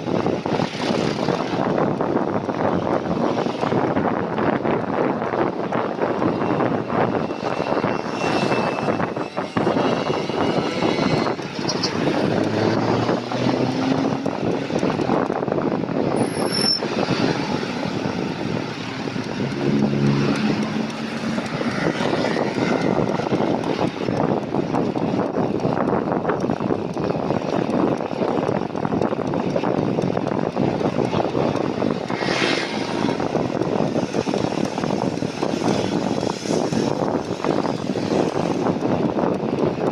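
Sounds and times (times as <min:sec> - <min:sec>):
bicycle road noise: 0:00.0 - 0:39.9
wind on microphone: 0:00.0 - 0:39.9
motor traffic passing: 0:03.2 - 0:39.2.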